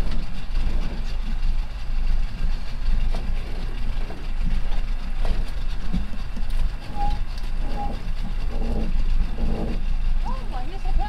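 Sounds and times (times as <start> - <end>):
outboard motor rumble: 0.0 - 11.0.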